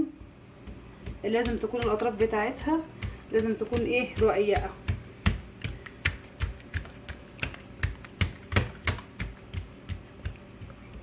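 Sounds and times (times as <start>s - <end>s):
hands slapping dough: 0.0s - 11.0s.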